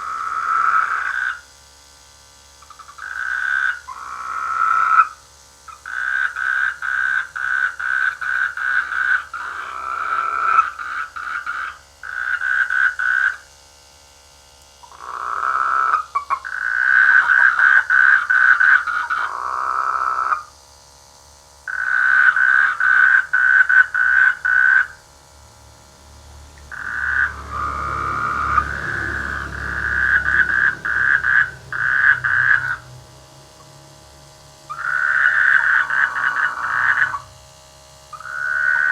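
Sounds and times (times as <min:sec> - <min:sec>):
frogs croaking: 0:00.0 - 0:01.7, 0:02.5 - 0:13.5, 0:14.8 - 0:20.5, 0:21.6 - 0:37.4, 0:38.1 - 0:38.9.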